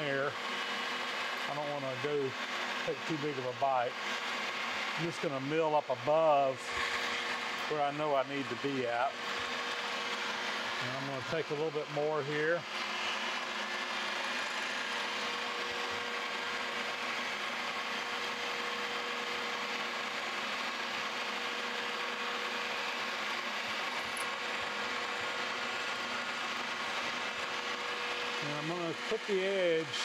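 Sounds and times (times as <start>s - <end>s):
milling machine spindle whining: 0.0s - 30.0s.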